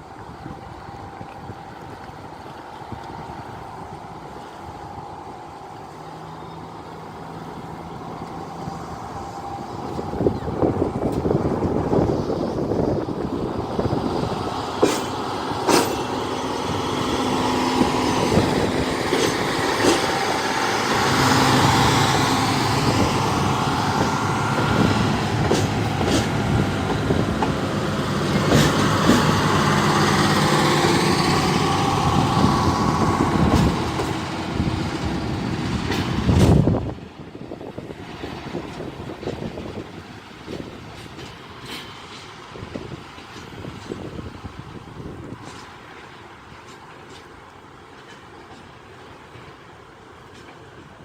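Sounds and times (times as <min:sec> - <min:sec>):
diesel railcar engine drone: 0:00.0 - 0:51.0.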